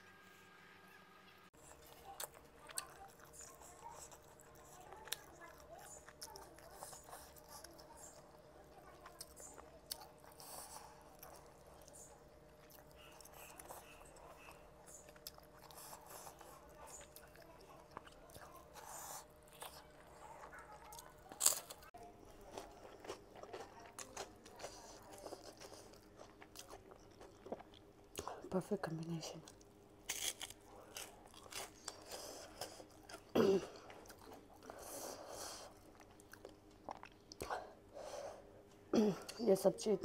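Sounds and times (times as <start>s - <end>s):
faint steady hum: 0.0s - 40.0s
chewing and crunching: 1.5s - 38.9s.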